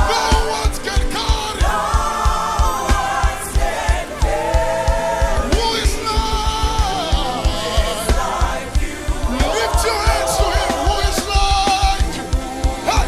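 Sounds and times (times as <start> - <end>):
band with drums: 0.0 - 13.0
voices singing long notes: 0.0 - 13.0.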